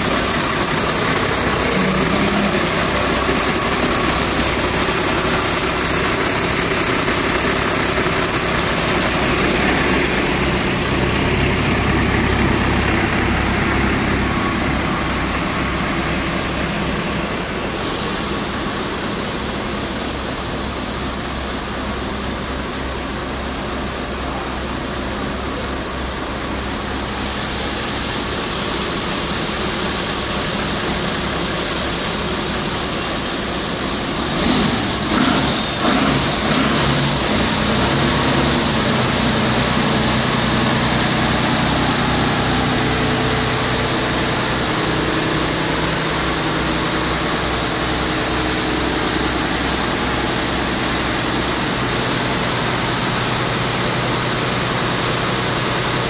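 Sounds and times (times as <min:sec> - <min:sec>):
loud engine bursts: 0:00.0 - 0:56.0
milling machine engine running: 0:00.0 - 0:56.0.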